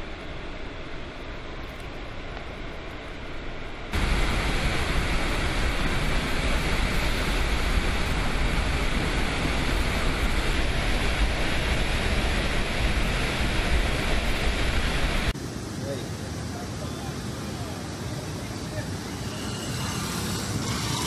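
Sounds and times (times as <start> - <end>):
heavy rush of water: 3.9 - 21.0.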